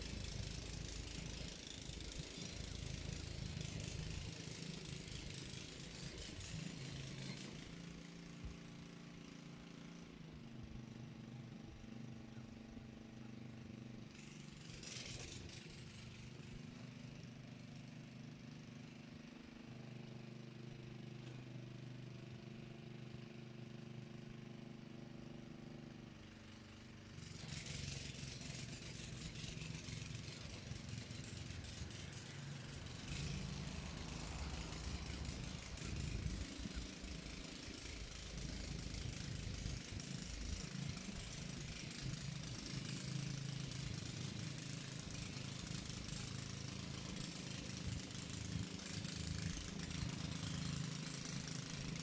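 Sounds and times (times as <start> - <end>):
small petrol engine running: 0.0 - 52.0.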